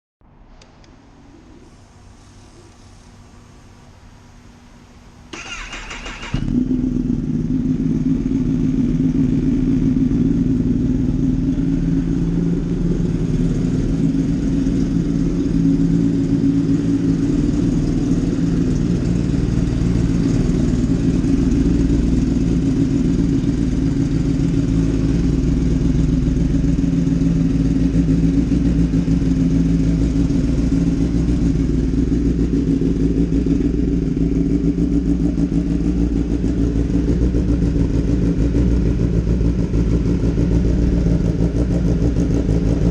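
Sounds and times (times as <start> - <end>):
motorcycle engine running steadily: 0.8 - 42.9.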